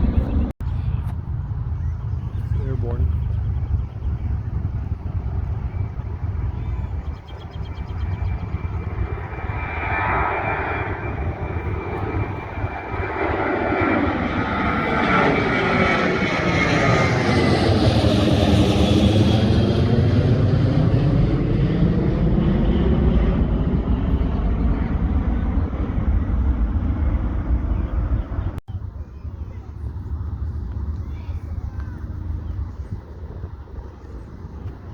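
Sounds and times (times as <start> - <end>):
jet airliner roar passing overhead: 0.0 - 34.9.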